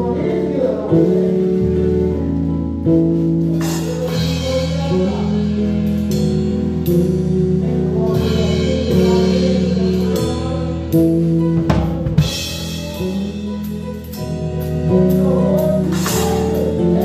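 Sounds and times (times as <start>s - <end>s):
drum kit: 0.0s - 17.0s
keyboard chords: 0.0s - 17.0s.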